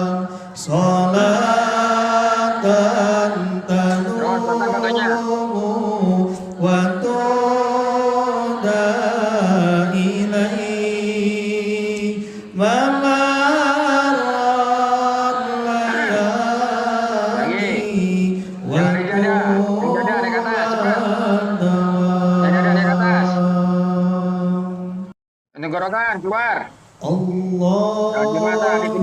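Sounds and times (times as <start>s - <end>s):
man chanting: 0.0s - 11.8s, 12.6s - 24.8s, 25.6s - 29.0s.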